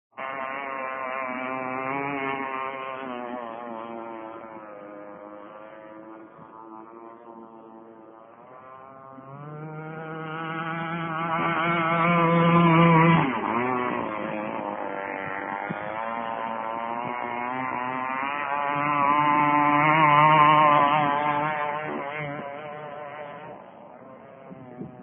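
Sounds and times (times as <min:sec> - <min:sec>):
model boat engine passing: 0:00.1 - 0:25.0.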